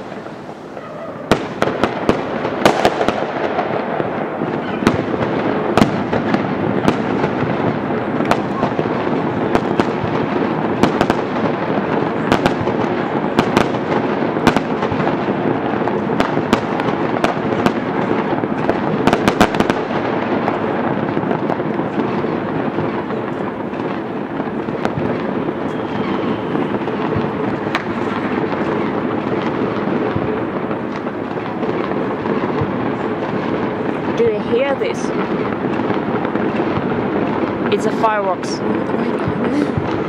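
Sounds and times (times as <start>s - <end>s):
firecracker sharp cracks: 0.0s - 40.0s
rumbling fireworks bangs: 0.0s - 40.0s.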